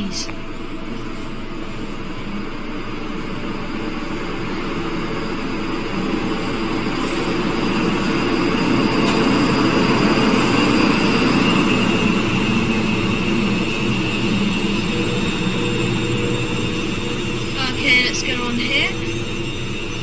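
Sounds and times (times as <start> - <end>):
electric train rumble: 0.0 - 20.0
high whine: 0.0 - 20.0.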